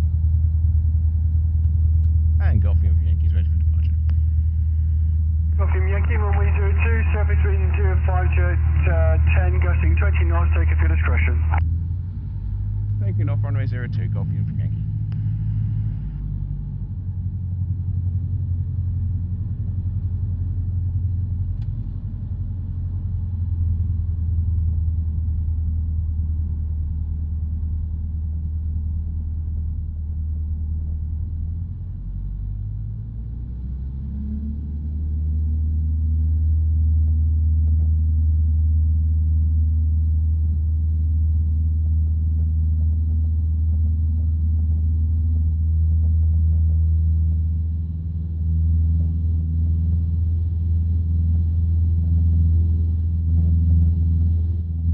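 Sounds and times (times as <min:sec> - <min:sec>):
light aircraft piston engine: 0:00.0 - 0:54.9.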